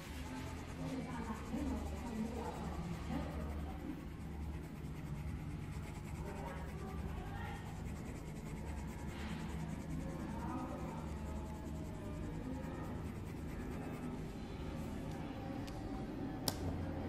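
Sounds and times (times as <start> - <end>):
colouring strokes scratching on paper: 0.0 - 15.0
steady low hum: 0.0 - 17.0.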